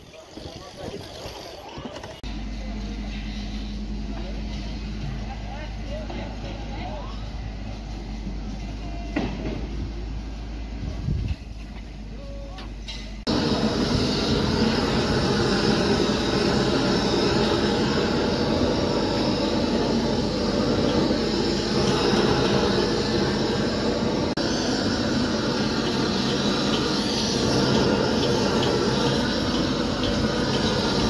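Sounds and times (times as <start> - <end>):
gas torch burner hissing: 0.0 - 31.0.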